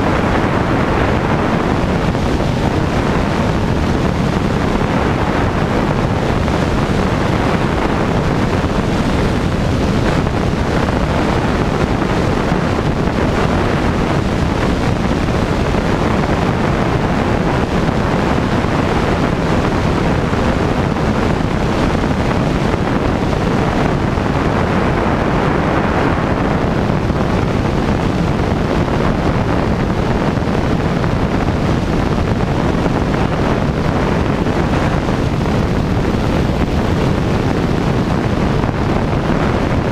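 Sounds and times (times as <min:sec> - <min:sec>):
light aircraft engine and propeller: 0:00.0 - 0:39.9
wind rushing on microphone: 0:00.0 - 0:39.9.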